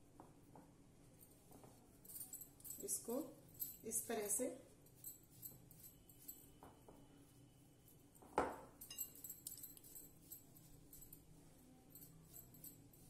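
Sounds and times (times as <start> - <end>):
bangles clinking: 1.1 - 13.0.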